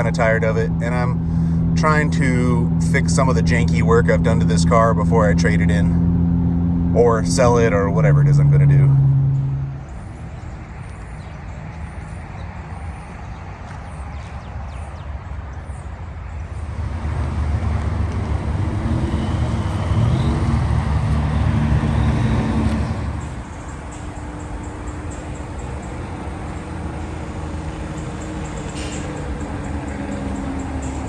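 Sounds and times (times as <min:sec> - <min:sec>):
car exhaust drone: 0:00.0 - 0:14.0, 0:15.6 - 0:31.0.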